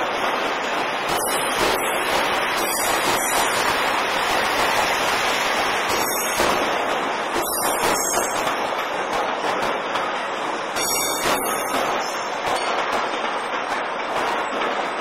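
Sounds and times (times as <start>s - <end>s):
train rushing rail noise: 0.0s - 15.0s
wheels clacking over rail joints: 0.0s - 15.0s.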